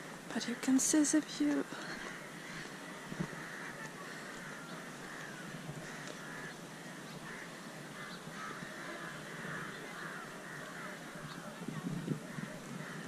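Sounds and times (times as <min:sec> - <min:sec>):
birds calling: 0:00.0 - 0:13.0
outdoor background hiss: 0:00.0 - 0:13.0.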